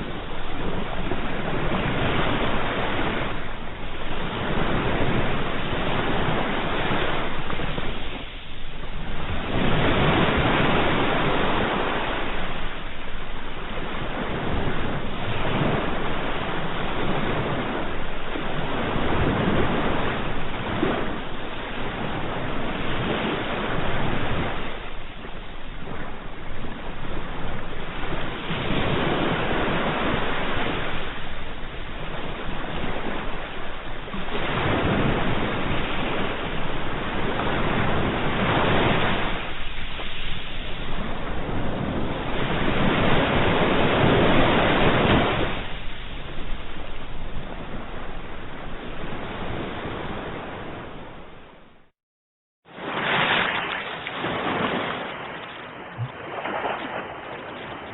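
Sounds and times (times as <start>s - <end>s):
ocean waves breaking on shore: 0.0s - 51.9s, 52.7s - 57.9s.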